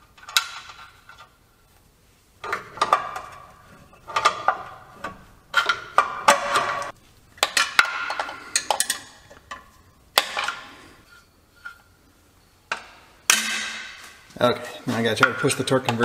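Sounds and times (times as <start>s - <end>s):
metal tools clanking on metal: 2.4s - 16.0s.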